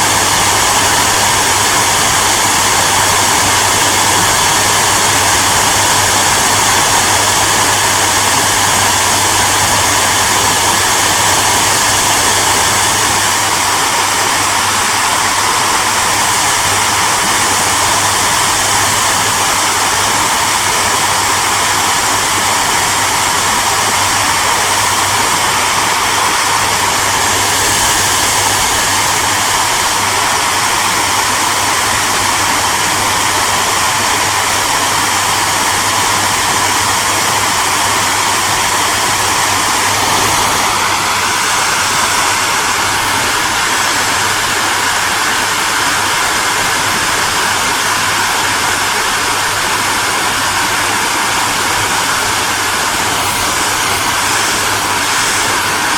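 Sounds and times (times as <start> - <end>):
hair dryer running: 0.0 - 55.9.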